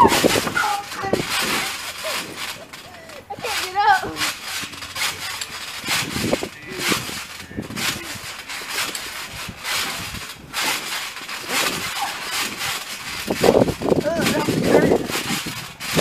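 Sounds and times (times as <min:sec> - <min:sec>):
feet splatting on wet trampoline: 0:00.0 - 0:16.0.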